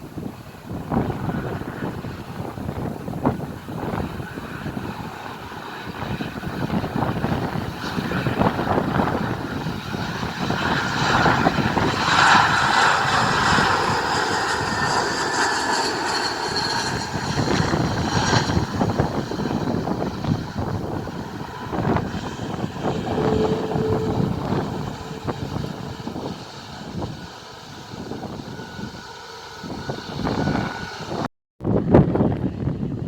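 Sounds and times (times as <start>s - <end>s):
high engine whine: 0.0s - 33.0s
jet airliner passing low: 0.0s - 33.0s
wind gusts on microphone: 0.0s - 33.0s.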